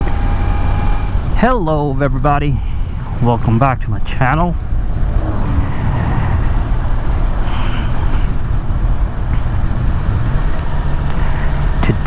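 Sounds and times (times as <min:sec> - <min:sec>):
wind rush on microphone: 0:00.0 - 0:12.0.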